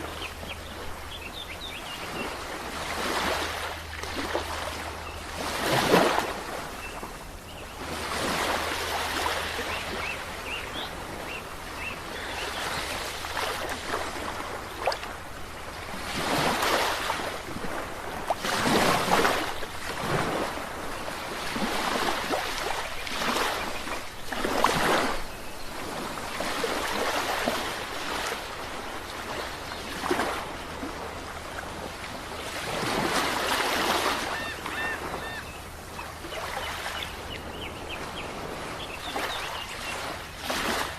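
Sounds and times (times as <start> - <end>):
sea waves breaking: 0.0 - 40.9.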